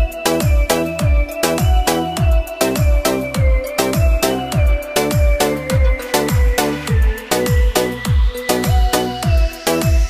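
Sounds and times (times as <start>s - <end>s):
electronic dance track: 0.0s - 10.0s
held melody line: 0.0s - 10.0s.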